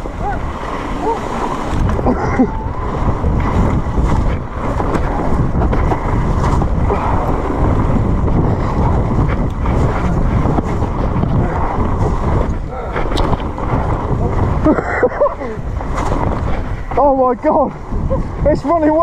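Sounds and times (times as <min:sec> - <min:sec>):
mountain bike rumbling over trail: 0:00.0 - 0:19.0
wind buffeting microphone: 0:00.0 - 0:19.0
bike knocks and rattles: 0:01.7 - 0:19.0.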